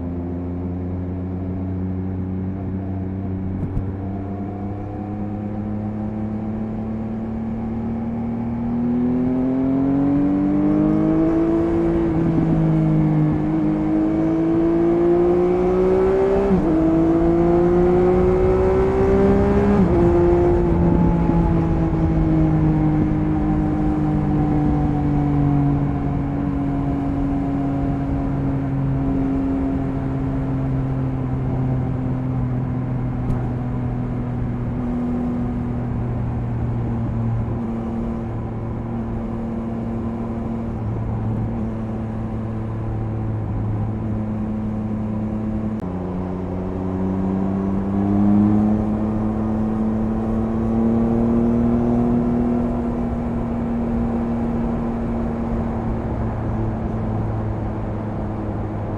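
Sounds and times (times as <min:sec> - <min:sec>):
motorcycle engine at speed: 0:00.0 - 0:58.9.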